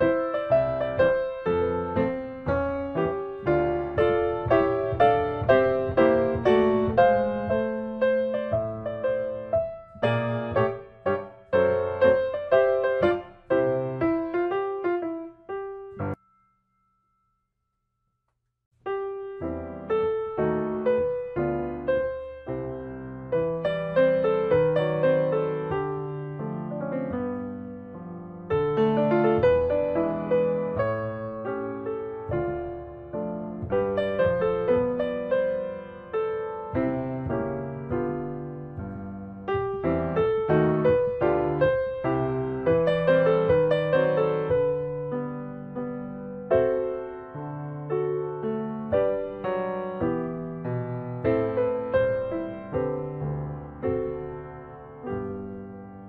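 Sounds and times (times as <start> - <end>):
solo piano music: 0.0 - 17.3, 18.8 - 56.0.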